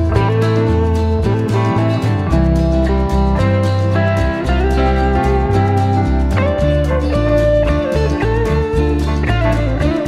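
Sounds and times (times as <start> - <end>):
guitar music over a steady beat: 0.0 - 10.0.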